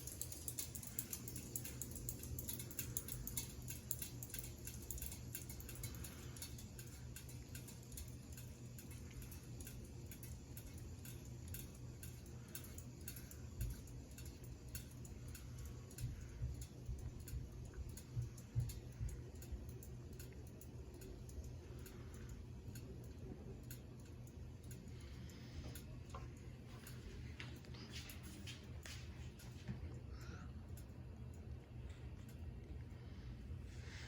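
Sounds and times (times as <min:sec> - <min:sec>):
ceiling fan motor hum: 0:00.0 - 0:34.0
fan ticking: 0:00.0 - 0:34.0.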